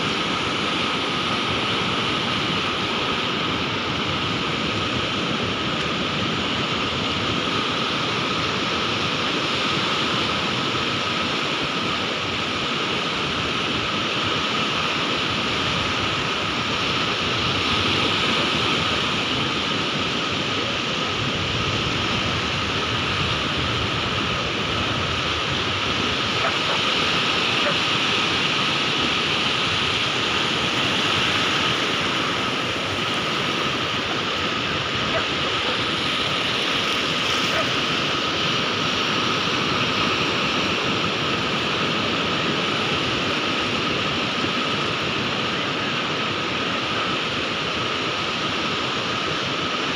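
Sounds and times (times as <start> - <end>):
sea surf rushing: 0.0 - 49.9.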